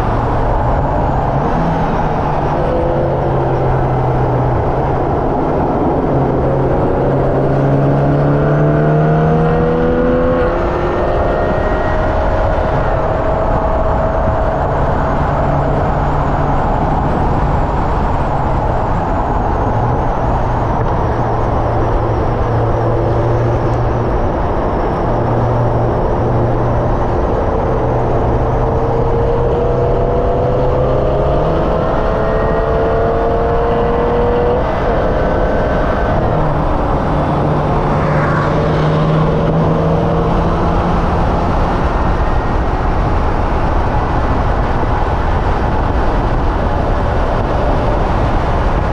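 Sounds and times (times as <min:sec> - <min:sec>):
car engine revving hard: 0:00.0 - 0:18.6, 0:19.4 - 0:48.9
road and wind noise: 0:00.0 - 0:48.9.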